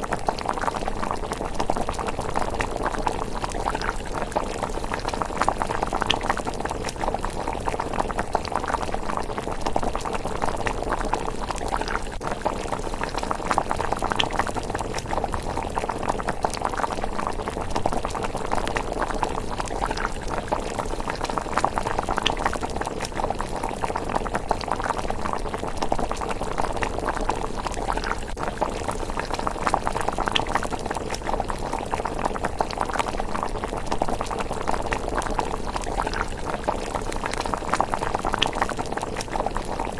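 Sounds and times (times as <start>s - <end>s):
porridge bubbling in a pot: 0.0s - 39.9s.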